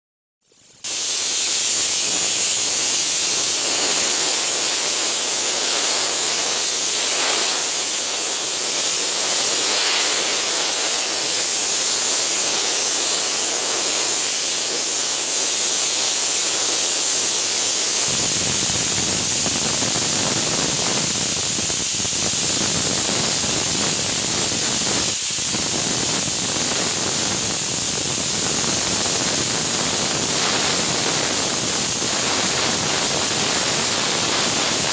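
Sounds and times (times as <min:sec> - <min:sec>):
steam hissing: 0:00.5 - 0:34.9.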